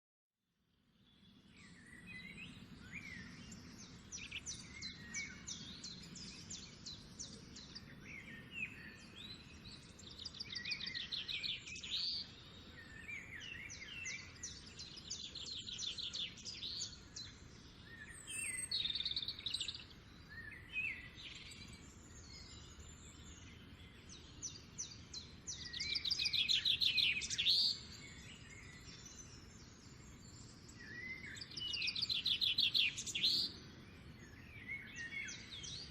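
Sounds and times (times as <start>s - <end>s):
songbirds trilling and chirping: 0.7s - 35.9s.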